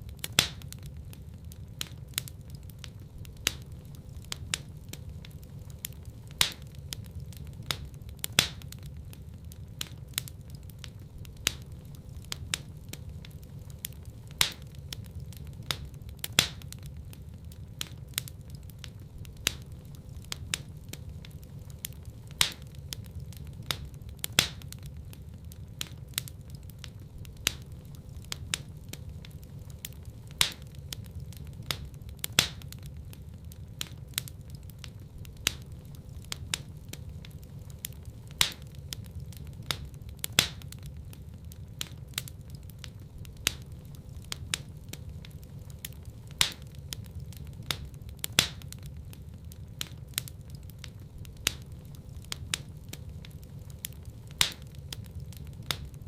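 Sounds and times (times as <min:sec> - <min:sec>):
low rumble of flame: 0:00.0 - 0:56.0
wood fire crackling: 0:00.0 - 0:56.0.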